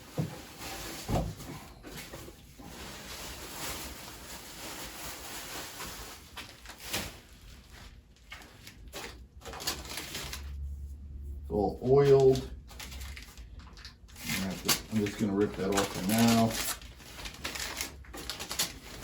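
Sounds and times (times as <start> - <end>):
plastic and paper crinkling: 0.0 - 10.8, 11.6 - 19.0.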